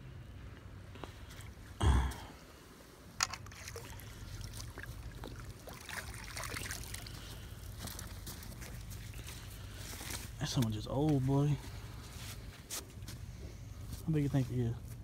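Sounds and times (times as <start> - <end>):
water trickling and rustling: 2.7 - 15.0.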